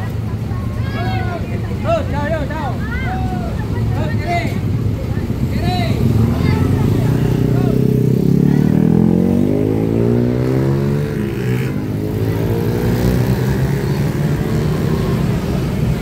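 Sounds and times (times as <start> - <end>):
motorcycle engines passing: 0.0 - 16.0.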